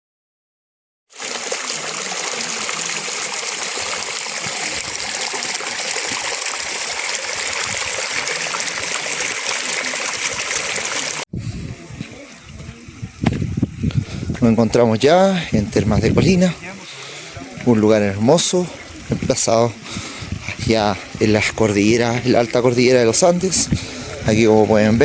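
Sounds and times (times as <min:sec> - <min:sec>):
water flowing: 0:01.1 - 0:11.3, 0:15.0 - 0:25.0.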